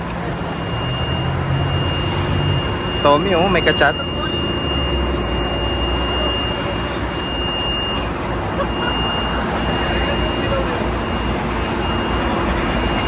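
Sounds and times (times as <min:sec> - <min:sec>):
heavy highway traffic: 0:00.0 - 0:13.0
heavy vehicle rumbling past: 0:00.0 - 0:13.0
high-pitched whine: 0:00.0 - 0:13.0.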